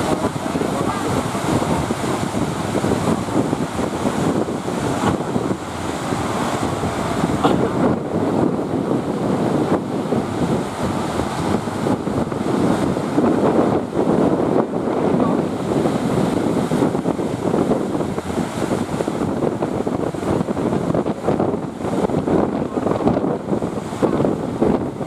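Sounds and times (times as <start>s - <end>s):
sea waves breaking: 0.0s - 25.0s
wind buffeting microphone: 0.0s - 25.0s.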